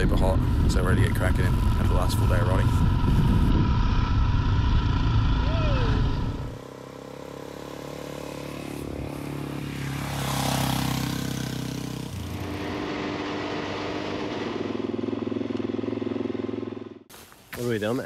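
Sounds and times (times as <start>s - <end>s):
motorcycle engine cruising: 0.0s - 17.1s
motorcycle engines passing: 0.0s - 17.1s.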